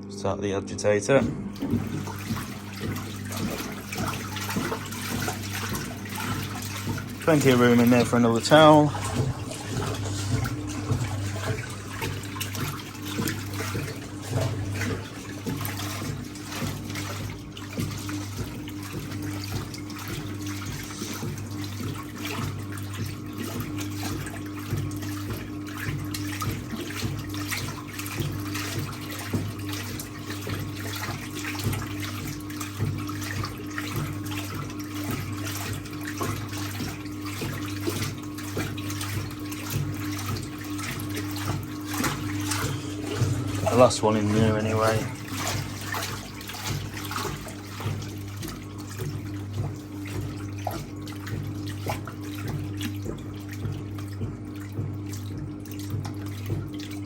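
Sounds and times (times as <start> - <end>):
washing machine motor humming: 0.0 - 57.0
water sloshing in washing machine: 0.0 - 57.0.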